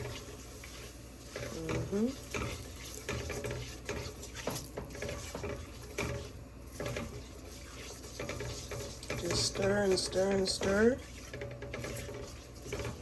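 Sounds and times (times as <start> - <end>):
utensil scraping in a pot: 0.0 - 13.0.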